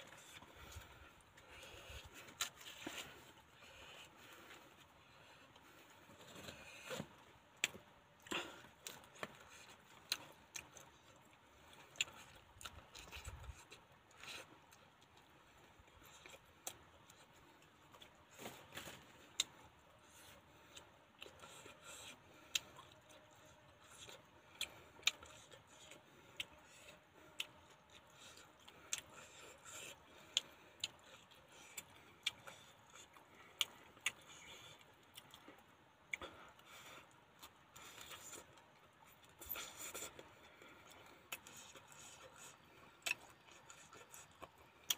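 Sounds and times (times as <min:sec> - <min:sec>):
person chewing: 0:00.0 - 0:44.9.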